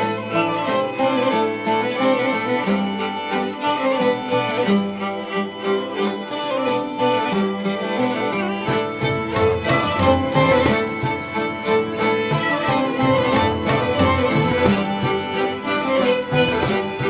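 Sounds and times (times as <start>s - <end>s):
bowed violin melody: 0.0s - 17.0s
light percussive accents: 0.0s - 17.0s
sustained lower strings: 0.0s - 17.0s.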